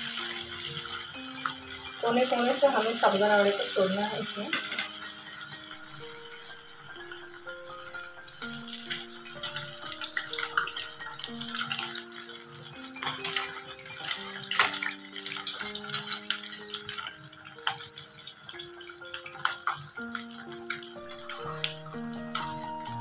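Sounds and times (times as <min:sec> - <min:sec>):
food deep-frying in hot oil: 0:00.0 - 0:23.0
soft background music: 0:00.0 - 0:23.0.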